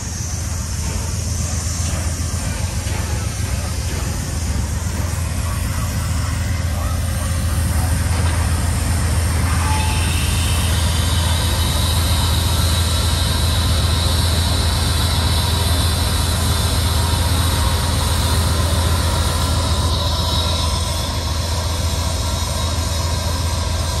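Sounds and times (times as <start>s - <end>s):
steam hissing: 0.0s - 24.0s
steam locomotive low hum: 0.0s - 24.0s.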